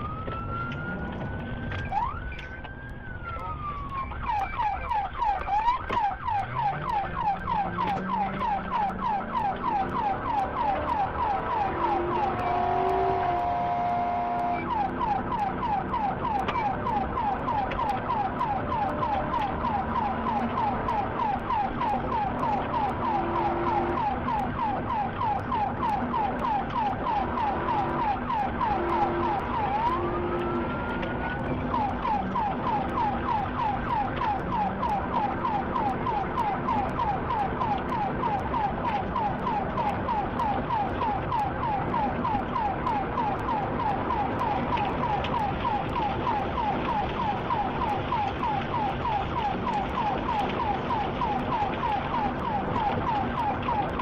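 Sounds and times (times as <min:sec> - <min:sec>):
engine and road noise: 0:00.0 - 0:54.0
police siren yelping: 0:00.0 - 0:54.0.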